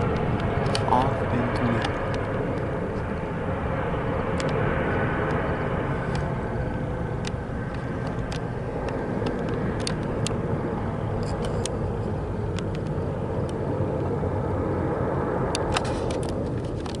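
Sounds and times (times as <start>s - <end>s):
faint whine: 0.0s - 17.0s
low engine rumble: 0.0s - 17.0s.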